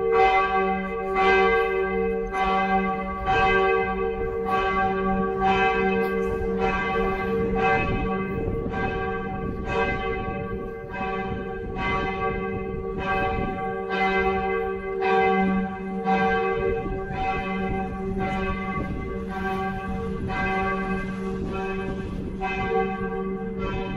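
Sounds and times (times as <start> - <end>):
church bells ringing: 0.0 - 23.9.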